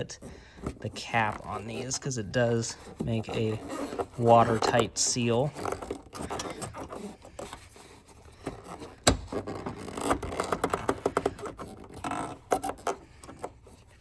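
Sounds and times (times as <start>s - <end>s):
plastic cap scraping and clicking: 0.0s - 14.0s.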